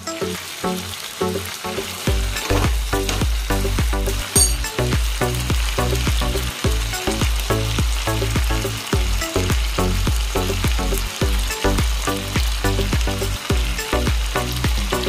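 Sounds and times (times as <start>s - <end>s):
pork sizzling in a wok: 0.0s - 15.0s
background music with quick beat: 2.0s - 15.0s.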